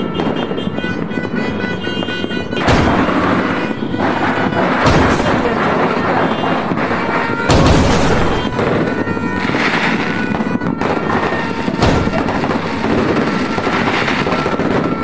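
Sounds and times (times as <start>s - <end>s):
fireworks crackling and popping: 0.0s - 15.0s
loud firework booms: 0.0s - 15.0s.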